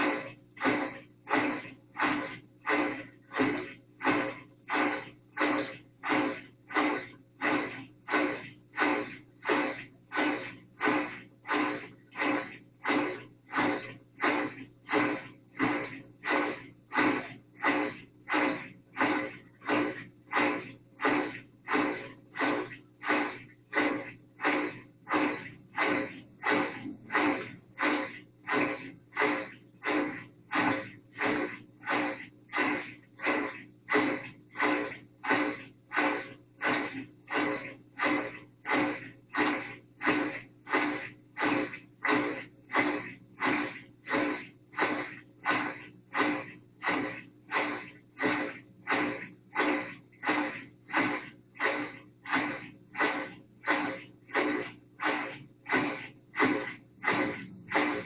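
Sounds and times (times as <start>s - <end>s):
washing machine motor hum: 0.0s - 58.0s
washing machine swishing: 0.0s - 58.0s.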